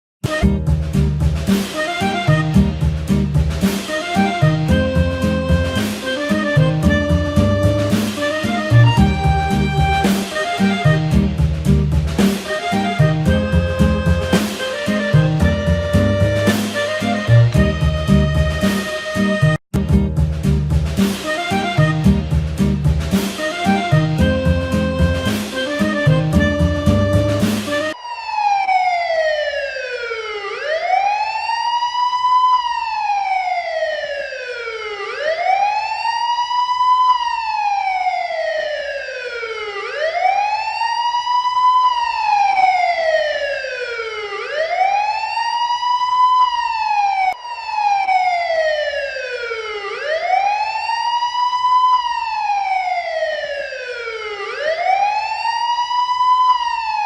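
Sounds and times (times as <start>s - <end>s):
wailing siren: 3.8s - 11.4s, 12.2s - 19.6s, 23.3s - 57.0s.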